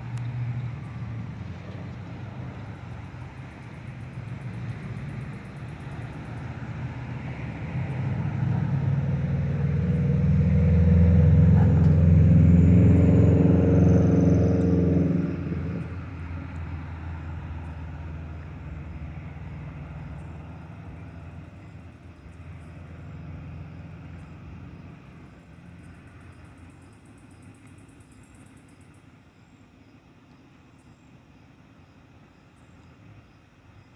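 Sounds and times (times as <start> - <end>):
diesel train passing: 0.0 - 29.0.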